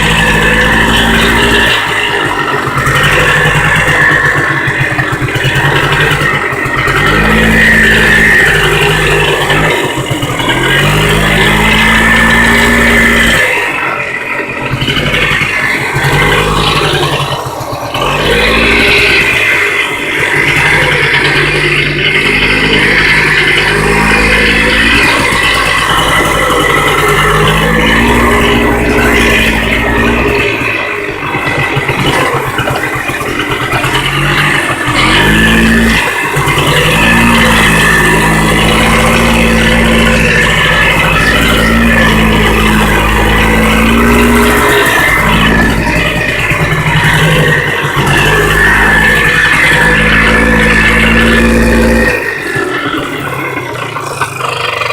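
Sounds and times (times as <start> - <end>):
two-stroke engine revving: 0.0 - 54.9.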